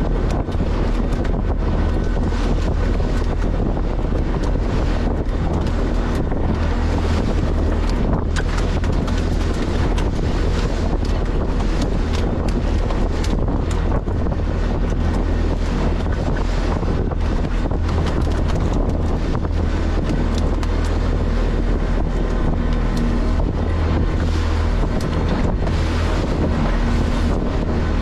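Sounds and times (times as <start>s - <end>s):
boat engine droning: 0.0s - 28.0s
wind buffeting microphone: 0.0s - 28.0s.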